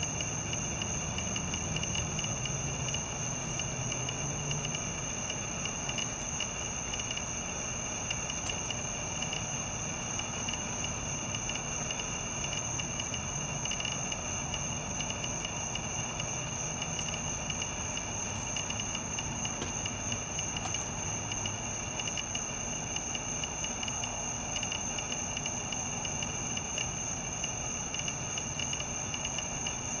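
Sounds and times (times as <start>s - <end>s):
high-pitched insect trilling: 0.0s - 30.0s
lower insect trill: 0.0s - 30.0s.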